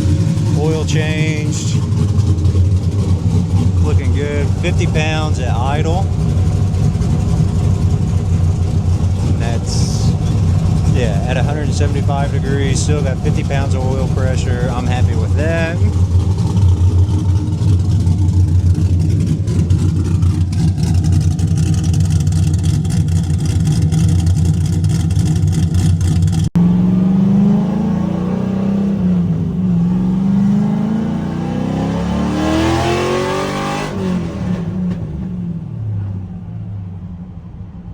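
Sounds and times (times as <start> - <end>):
car engine idling: 0.0 - 31.4
engine revving: 0.0 - 36.2.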